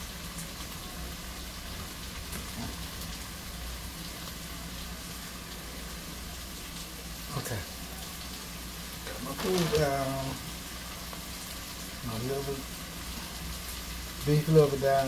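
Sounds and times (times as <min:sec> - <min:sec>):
chicken sizzling in a skillet: 0:00.0 - 0:15.0.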